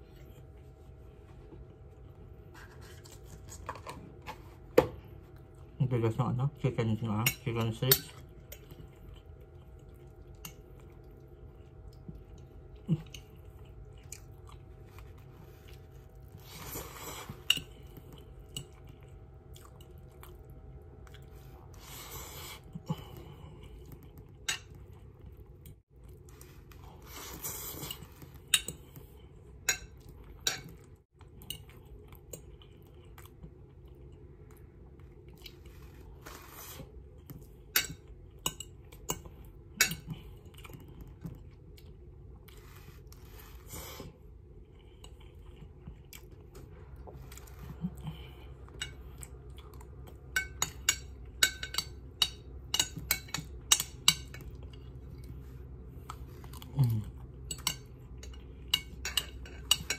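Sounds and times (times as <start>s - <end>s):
person chewing noodles: 8.1s - 59.9s.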